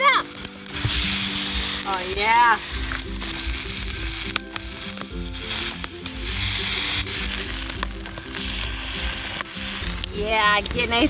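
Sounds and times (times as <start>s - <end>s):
toast sizzling in a pan: 0.0s - 11.0s.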